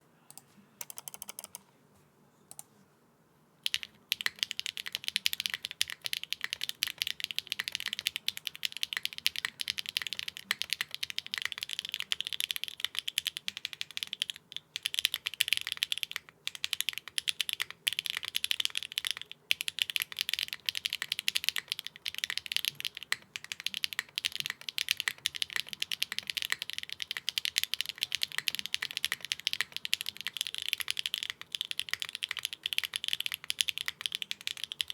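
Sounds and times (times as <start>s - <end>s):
mechanical keyboard typing: 0.8s - 1.6s, 3.6s - 34.9s.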